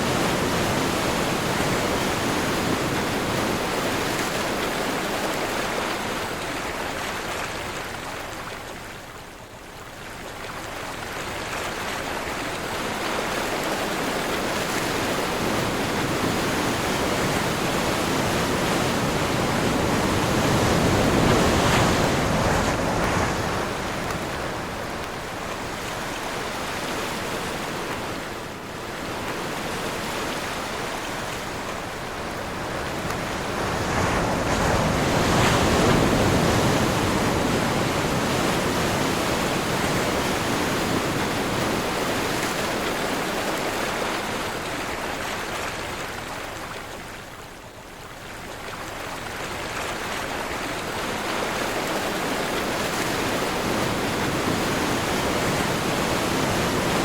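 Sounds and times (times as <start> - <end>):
sea waves rushing: 0.0 - 8.2, 11.2 - 47.0, 48.8 - 57.0.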